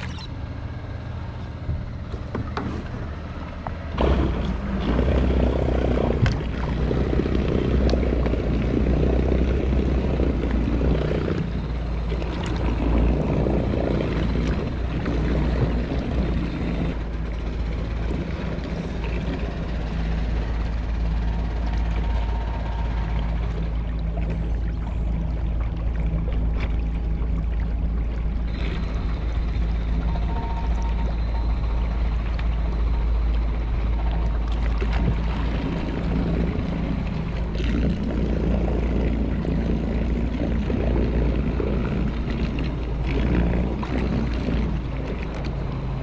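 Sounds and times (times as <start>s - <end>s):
boat motor running: 0.0s - 46.0s
water noise: 0.0s - 46.0s.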